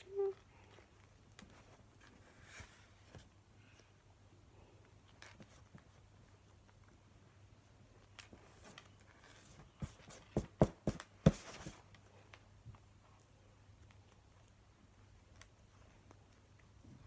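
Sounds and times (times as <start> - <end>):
faint rubbing and handling: 0.0 - 17.0.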